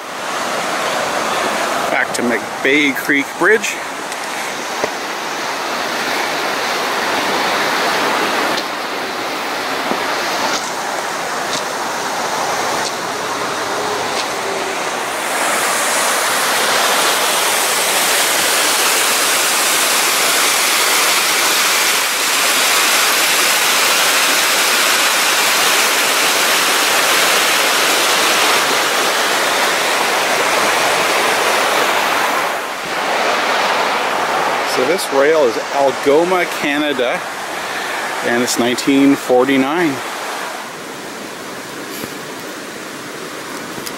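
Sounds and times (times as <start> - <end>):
creek water rushing: 0.0 - 43.9.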